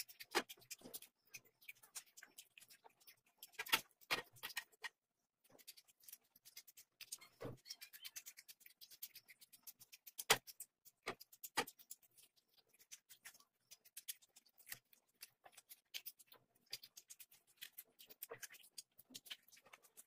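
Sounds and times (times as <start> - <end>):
chewing and lip smacking: 0.0 - 20.0.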